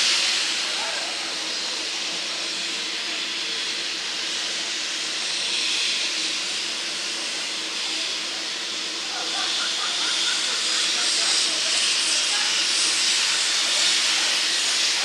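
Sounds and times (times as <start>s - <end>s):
steam locomotive hissing steam: 0.0s - 15.0s.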